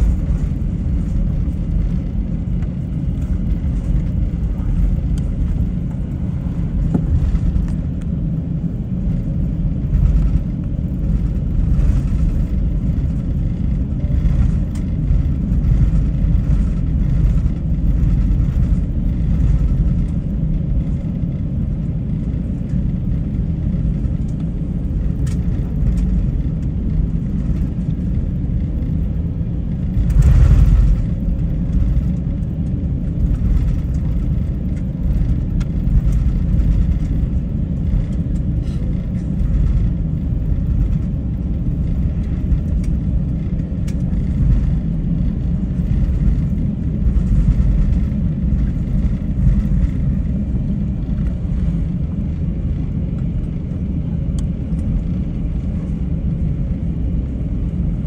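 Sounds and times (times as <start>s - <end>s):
airliner engines rumbling: 0.0s - 58.0s.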